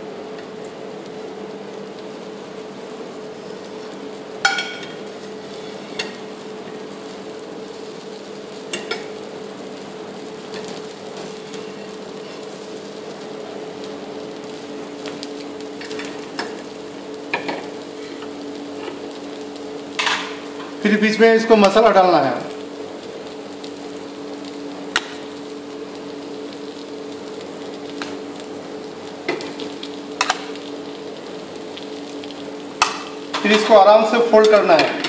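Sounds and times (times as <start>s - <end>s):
dosa sizzling in oil: 0.0s - 34.9s.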